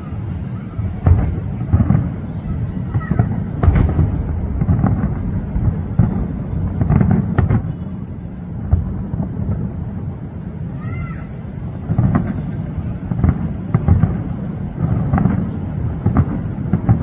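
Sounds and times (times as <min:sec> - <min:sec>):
distant fireworks booming: 0:00.0 - 0:17.0
sharp fireworks bangs: 0:00.0 - 0:17.0.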